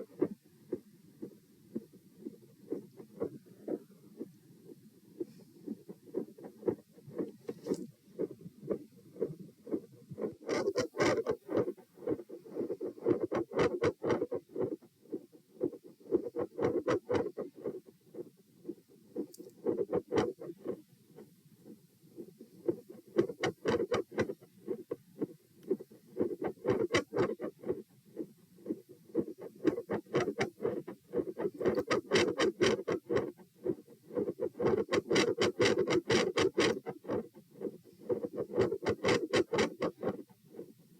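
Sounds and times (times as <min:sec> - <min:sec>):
heartbeat sounds: 0:00.0 - 0:40.7.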